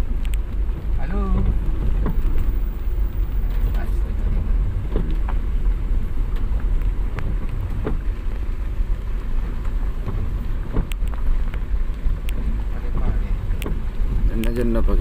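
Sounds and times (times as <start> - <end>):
vehicle engine rumbling: 0.0 - 15.0
light clicks and knocks: 1.3 - 8.4, 9.6 - 14.9.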